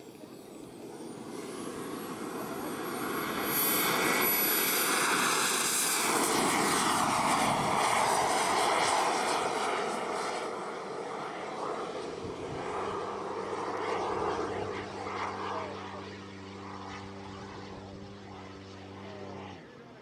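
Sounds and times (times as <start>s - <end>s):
model jet turbine whine: 0.0s - 20.0s.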